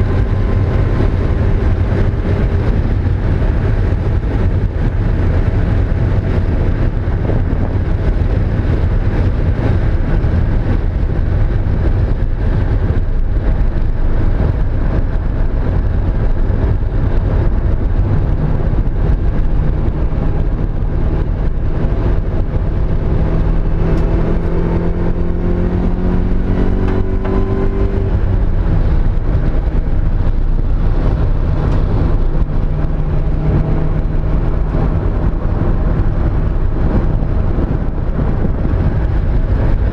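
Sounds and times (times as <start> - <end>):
dense rumble: 0.0 - 39.9.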